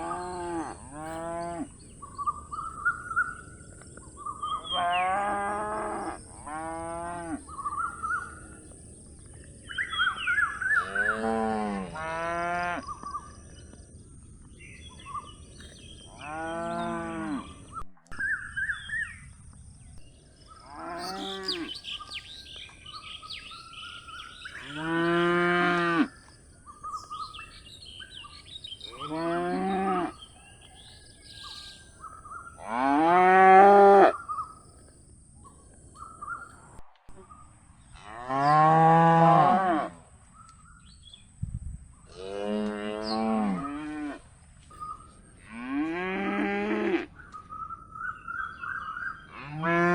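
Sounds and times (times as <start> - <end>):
faint birds chirping: 0.0 - 38.9, 40.2 - 49.7.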